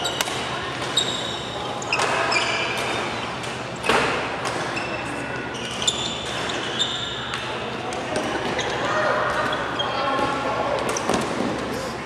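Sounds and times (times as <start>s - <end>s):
court shoes squeaking: 0.0s - 12.0s
voices echoing in a hall: 0.0s - 12.0s.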